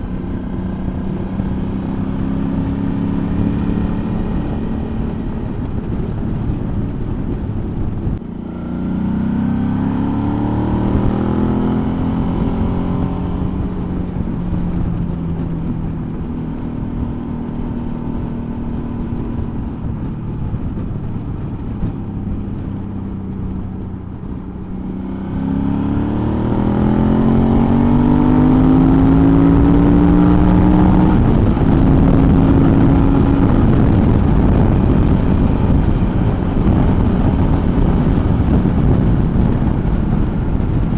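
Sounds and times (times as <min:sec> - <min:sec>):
motorcycle engine accelerating: 0:00.0 - 0:40.9
wind rushing: 0:00.0 - 0:40.9.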